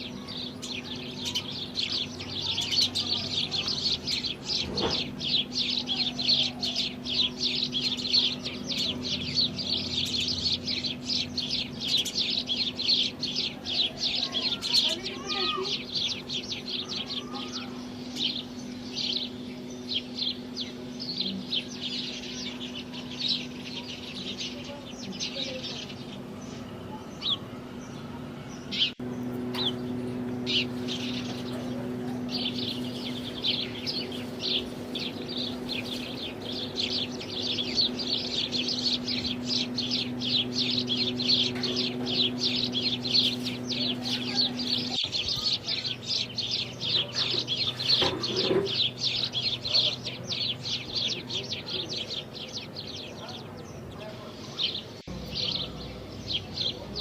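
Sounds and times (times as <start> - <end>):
sparrows chirping: 0.0 - 57.0
steady low hum: 0.0 - 57.0.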